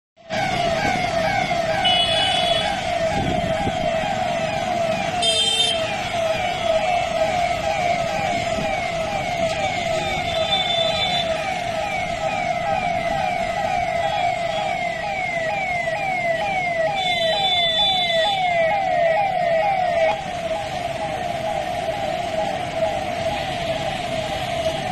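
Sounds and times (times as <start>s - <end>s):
police siren wailing: 0.2s - 24.9s.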